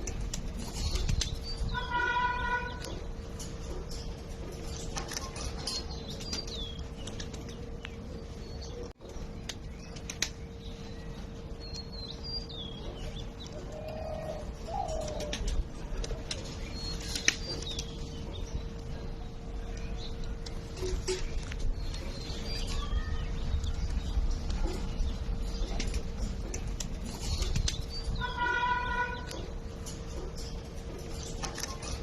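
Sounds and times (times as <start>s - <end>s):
low bird calls: 4.7s - 30.5s.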